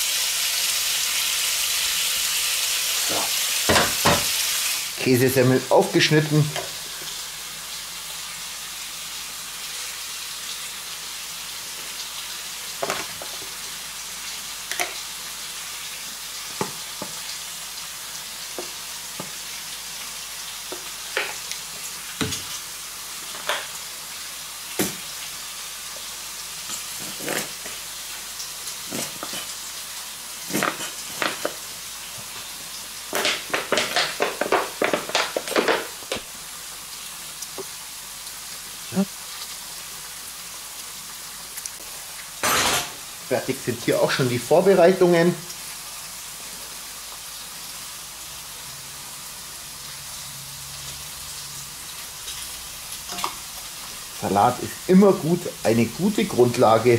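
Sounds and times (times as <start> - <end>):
meat and onions sizzling: 0.0 - 56.9.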